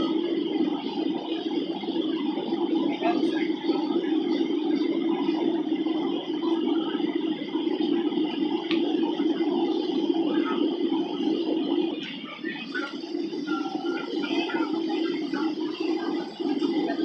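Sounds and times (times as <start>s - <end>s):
airliner cabin hum: 0.0s - 17.0s.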